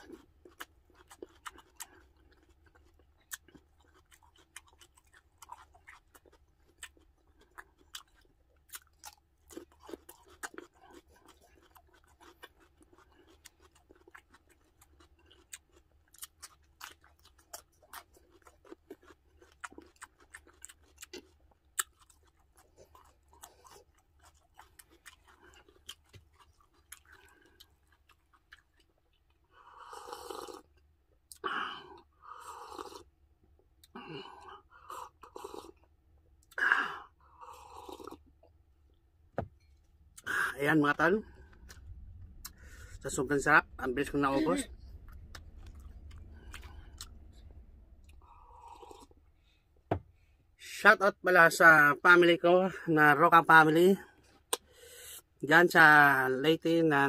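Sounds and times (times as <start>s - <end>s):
person chewing crunchy pepper: 0.0s - 39.0s, 39.7s - 50.3s, 54.0s - 55.4s.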